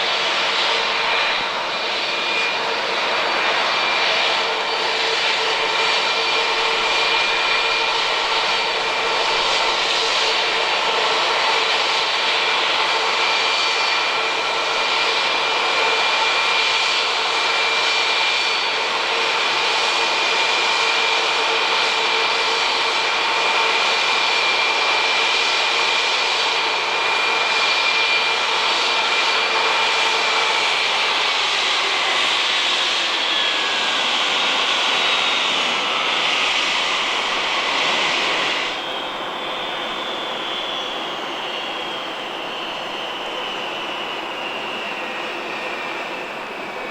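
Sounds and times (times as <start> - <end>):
jet engines roaring and whining: 0.0 - 46.9.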